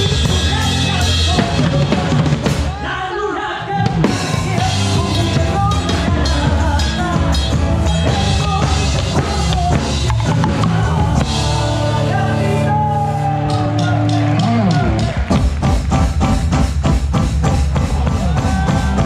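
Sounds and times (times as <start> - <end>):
live folk-rock band: 0.0 - 19.0.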